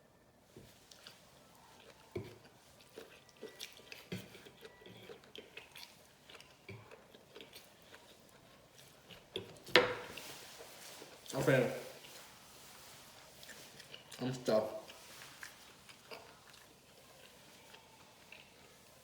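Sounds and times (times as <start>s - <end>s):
chewing food: 0.6s - 19.0s.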